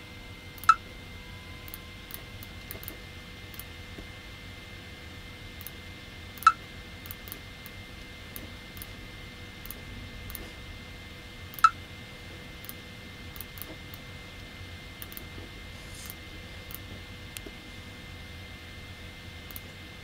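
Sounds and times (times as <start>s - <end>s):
faint hiss and hum: 0.0s - 20.0s.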